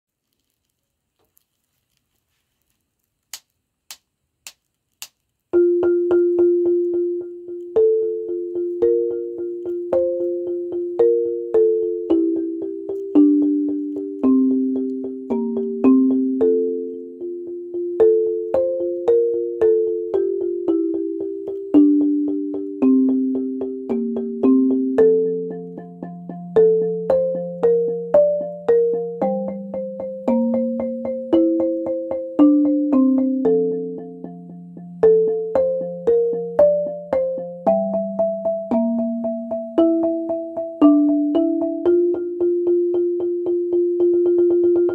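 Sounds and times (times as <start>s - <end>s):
marimba rolled melody: 5.6s - 44.9s.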